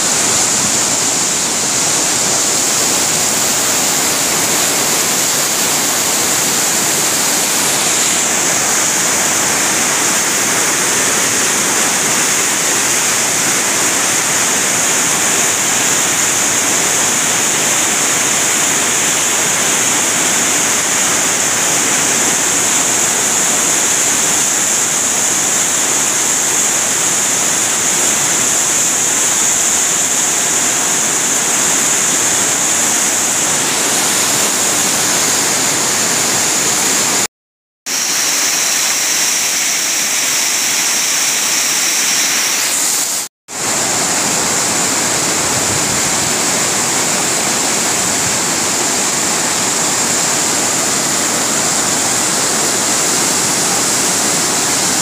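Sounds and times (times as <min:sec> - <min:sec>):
river rushing over rapids: 0:00.0 - 0:37.3, 0:37.9 - 0:55.0.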